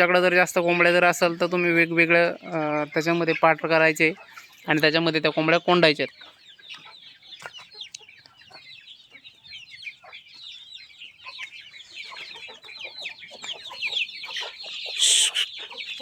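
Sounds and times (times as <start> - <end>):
chicks peeping: 0.0 - 16.0
hens clucking: 0.0 - 16.0.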